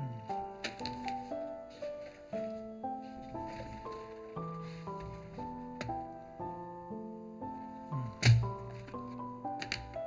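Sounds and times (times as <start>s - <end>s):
background music melody: 0.0s - 10.0s.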